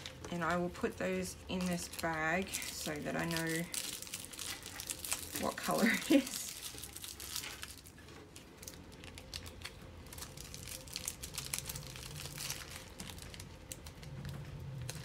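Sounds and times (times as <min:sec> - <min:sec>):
plastic bag crinkling: 0:00.0 - 0:15.0
small irregular crackles: 0:00.0 - 0:15.0.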